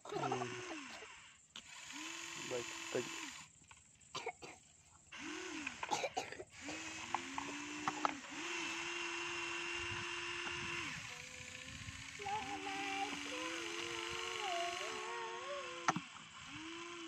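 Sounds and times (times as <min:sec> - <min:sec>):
toy motors whining: 0:00.0 - 0:04.0, 0:05.1 - 0:17.0.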